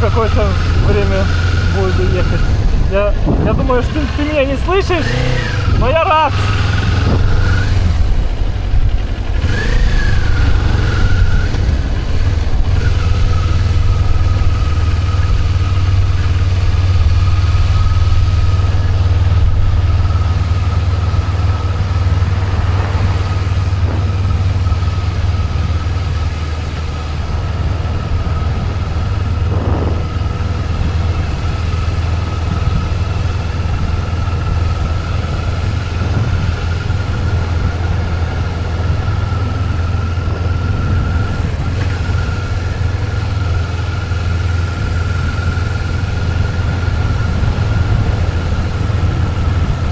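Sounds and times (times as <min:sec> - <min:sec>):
motorcycle engine running: 0:00.0 - 0:49.9
thin whine: 0:00.0 - 0:49.9
wind rumble on microphone: 0:00.0 - 0:49.9.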